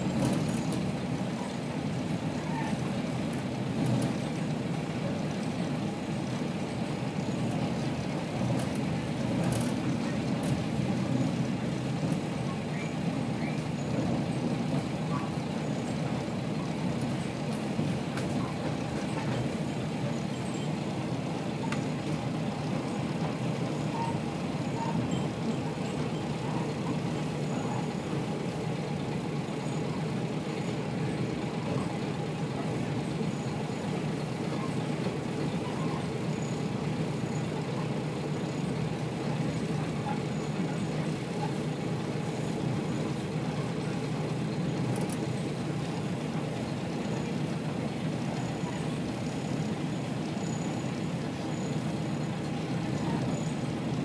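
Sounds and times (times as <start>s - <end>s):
diesel engine rumble: 0.0s - 54.0s
train wheels on track: 0.0s - 54.0s.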